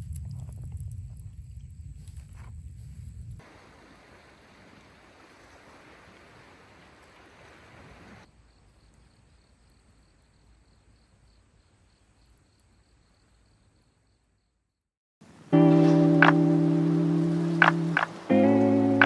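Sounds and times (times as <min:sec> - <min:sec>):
faint outdoor hiss: 0:00.0 - 0:19.0.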